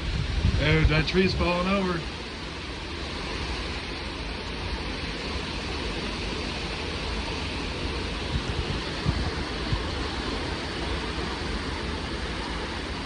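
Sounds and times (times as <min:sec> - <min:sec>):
strong gusting wind: 0:00.0 - 0:13.0.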